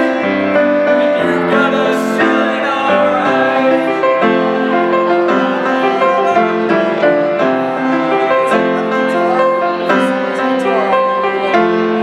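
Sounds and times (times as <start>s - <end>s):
slow grand piano chords: 0.0s - 12.0s.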